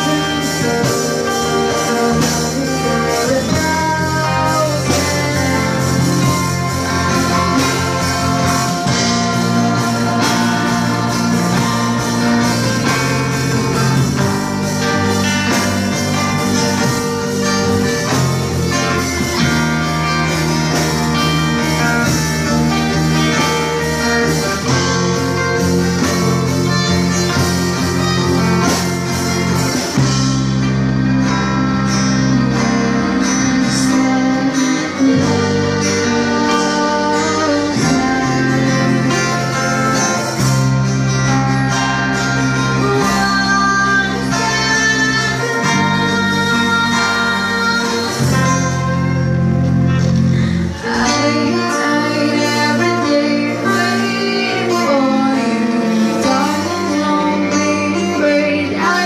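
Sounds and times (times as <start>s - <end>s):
girl singing into microphone: 0.0s - 27.6s, 31.2s - 59.0s
live band playing pop ballad: 0.0s - 59.0s.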